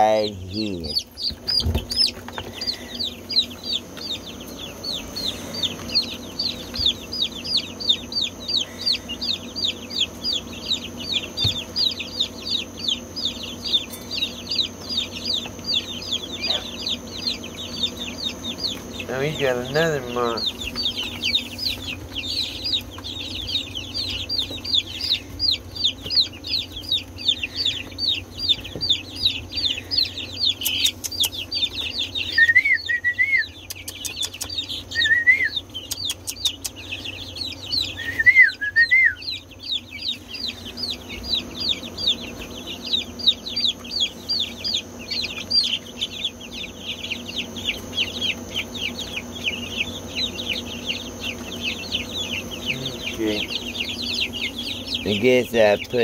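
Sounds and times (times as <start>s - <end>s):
chicks peeping: 0.0s - 56.0s
low wavering trills: 2.5s - 56.0s.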